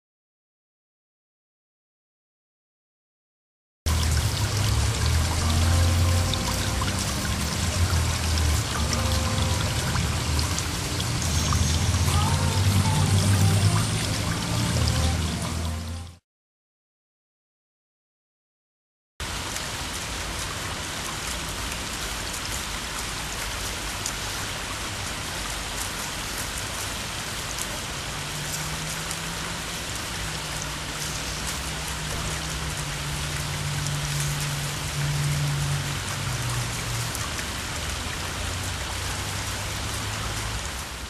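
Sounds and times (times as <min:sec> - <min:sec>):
waterfall splashing onto rocks: 0:03.9 - 0:15.8, 0:19.2 - 0:41.0.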